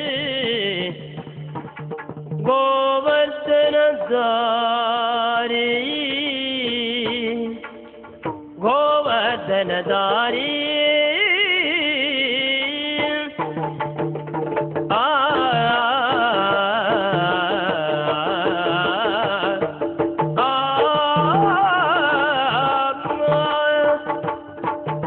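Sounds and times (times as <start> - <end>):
drum strokes: 0.0 - 3.0, 6.0 - 25.0.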